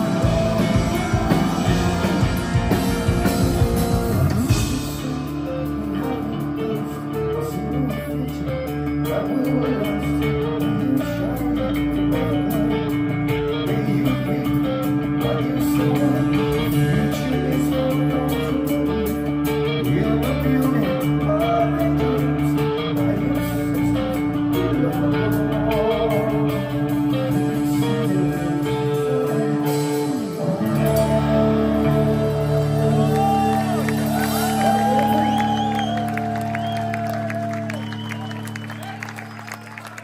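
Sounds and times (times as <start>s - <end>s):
bass guitar: 0.0s - 40.0s
drums: 0.0s - 40.0s
electric guitar: 0.0s - 40.0s.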